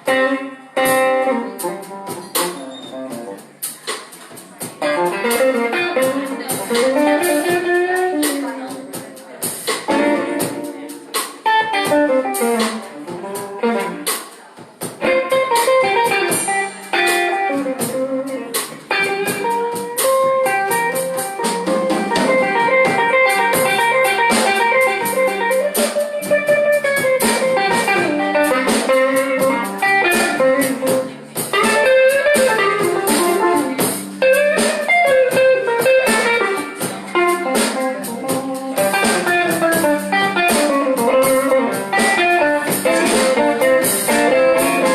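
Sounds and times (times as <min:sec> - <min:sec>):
electric guitar lead: 0:00.0 - 0:03.8, 0:04.7 - 0:09.2, 0:09.8 - 0:14.2, 0:14.9 - 0:44.9
blues band playing: 0:00.0 - 0:44.9.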